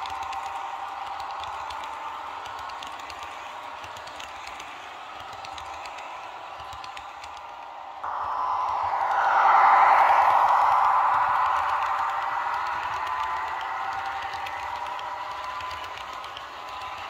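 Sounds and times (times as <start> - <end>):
model train rolling on track: 0.0 - 8.0, 8.9 - 17.0.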